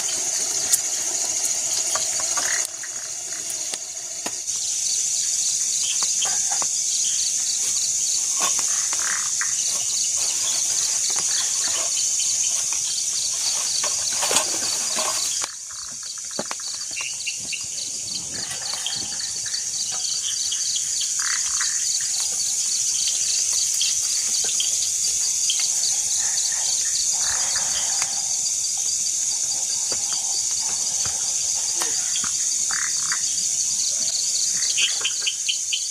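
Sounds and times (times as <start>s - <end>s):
cricket chirps: 0.0s - 35.9s
insects buzzing: 0.0s - 35.9s.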